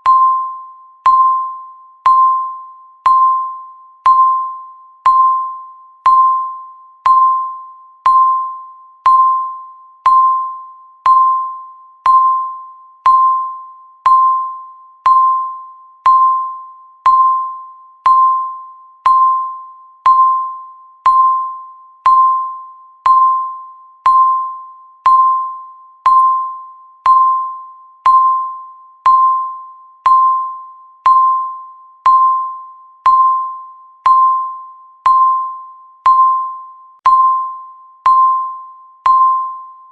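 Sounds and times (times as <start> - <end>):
electronic timer ping: 0.0 - 39.9.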